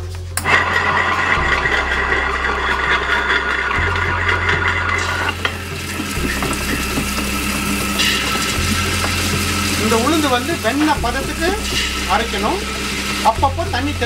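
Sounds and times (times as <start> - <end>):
wet grinder scraping and churning: 0.0 - 14.0.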